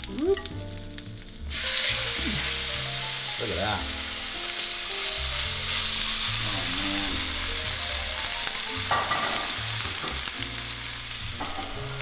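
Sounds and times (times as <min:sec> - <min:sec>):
steaks sizzling on a griddle: 0:00.1 - 0:12.0.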